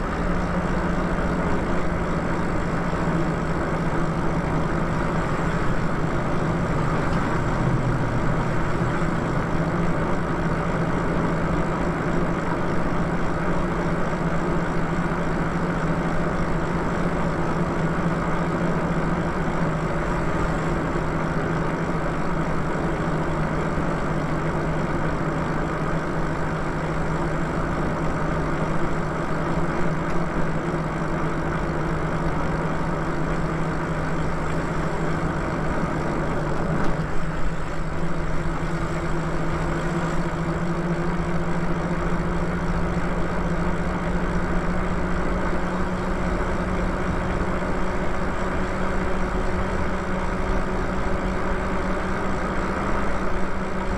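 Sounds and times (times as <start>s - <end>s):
e-bike motor hum: 0.0s - 53.9s
wind and tyre noise: 0.0s - 53.9s.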